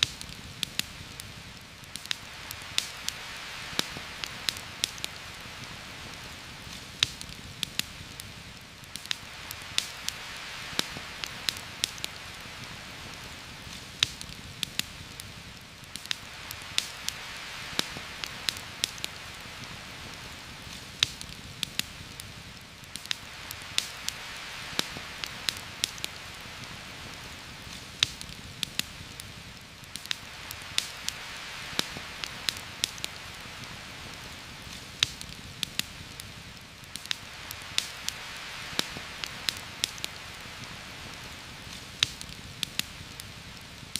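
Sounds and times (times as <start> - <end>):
campfire crackling: 0.0 - 43.9
rain hiss: 0.0 - 43.9.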